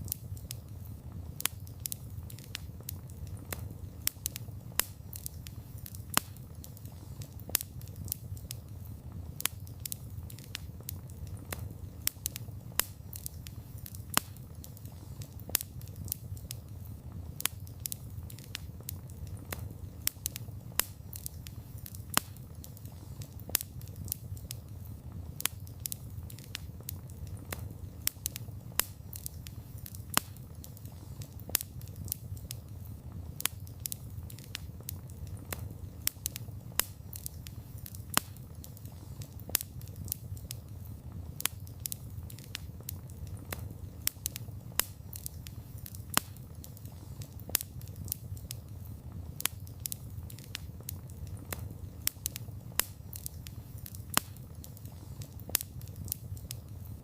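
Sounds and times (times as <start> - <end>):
low rumble of fire: 0.0 - 57.0
wood fire crackling: 0.0 - 57.0.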